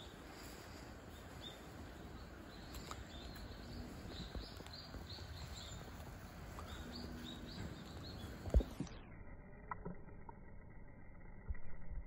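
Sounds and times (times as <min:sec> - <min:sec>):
small bird chirping: 0:00.0 - 0:09.8
faint low rumble: 0:00.0 - 0:12.0.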